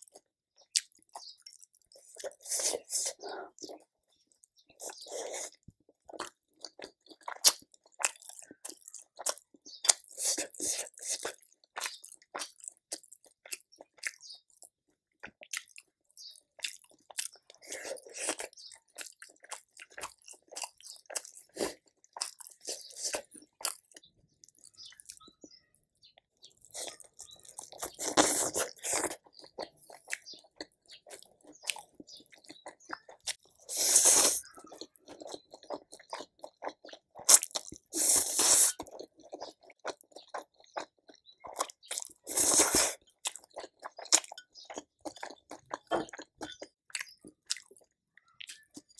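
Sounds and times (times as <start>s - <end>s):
person chewing and biting: 0.0s - 3.8s, 4.8s - 25.2s, 26.5s - 48.9s.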